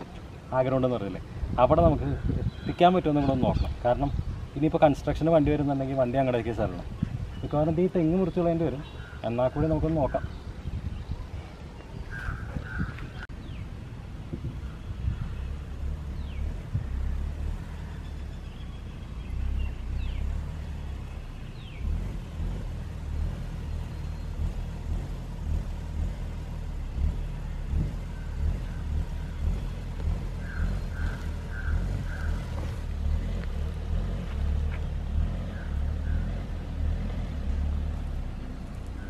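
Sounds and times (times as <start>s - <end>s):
car engine rumbling: 0.0s - 39.0s.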